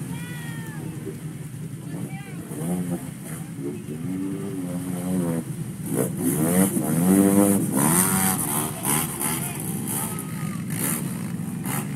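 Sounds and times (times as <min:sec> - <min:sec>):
utility vehicle engine revving: 0:00.0 - 0:11.9.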